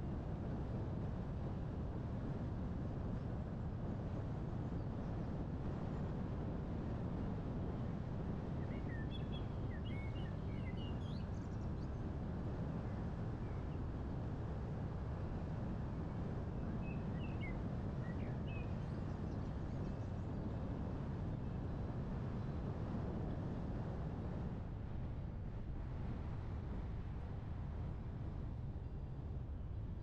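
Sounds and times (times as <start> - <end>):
car road and wind noise: 0.0 - 30.0.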